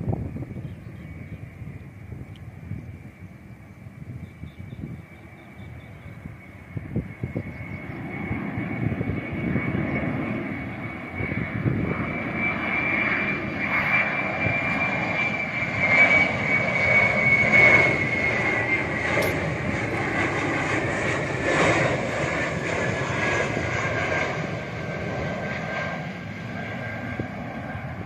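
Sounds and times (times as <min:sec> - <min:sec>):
jet engine rumble and whine: 0:00.0 - 0:28.0.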